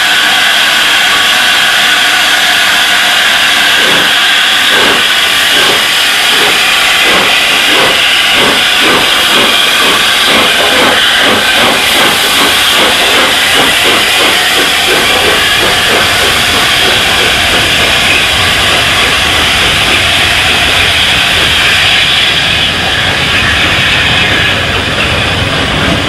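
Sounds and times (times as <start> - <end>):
steam hissing: 0.0 - 26.0
steam locomotive exhaust beats: 0.0 - 26.0.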